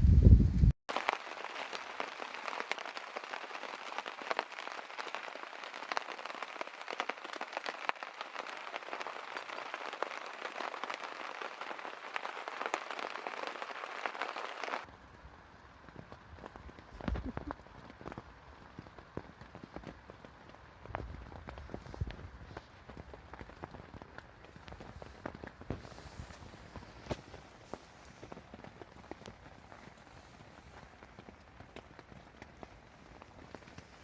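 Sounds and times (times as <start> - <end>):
rain pattering: 0.6 - 34.0.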